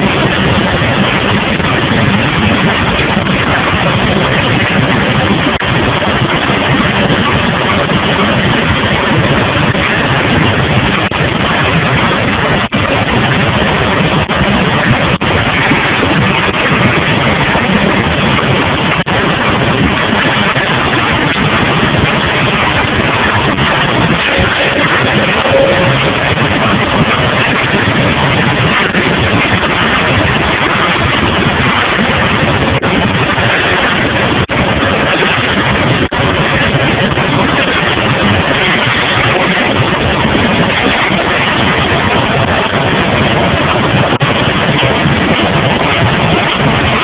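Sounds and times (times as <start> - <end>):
engine-driven machinery running: 0.0 - 47.0.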